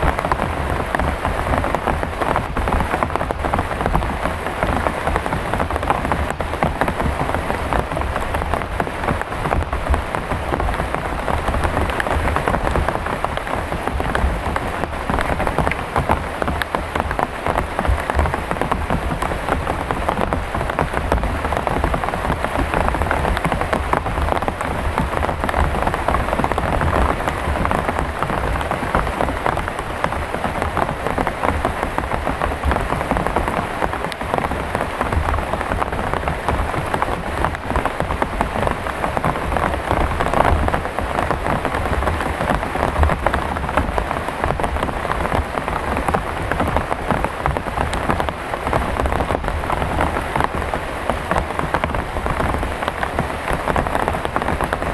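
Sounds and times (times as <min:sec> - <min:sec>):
heavy rain drumming on a tarp: 0:00.0 - 0:54.9.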